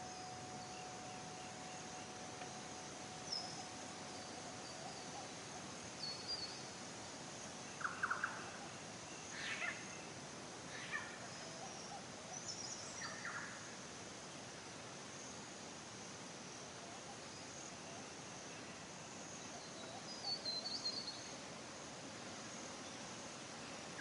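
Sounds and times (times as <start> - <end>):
high insect trill: 0.0 - 24.0
steady hiss: 0.0 - 24.0.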